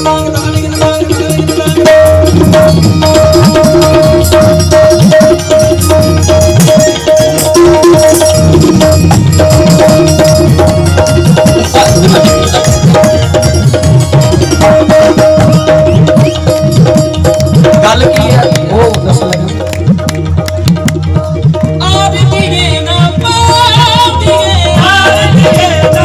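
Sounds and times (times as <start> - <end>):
hand drums playing: 0.0 - 26.0.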